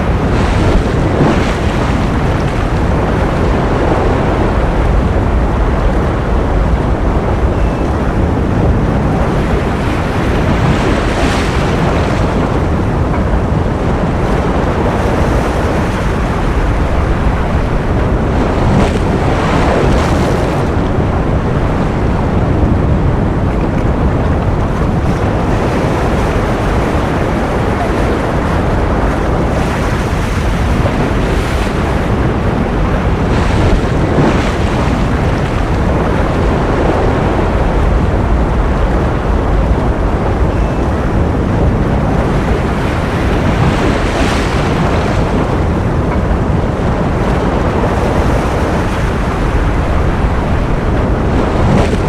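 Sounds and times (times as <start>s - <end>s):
ocean surf rushing: 0.0s - 52.0s.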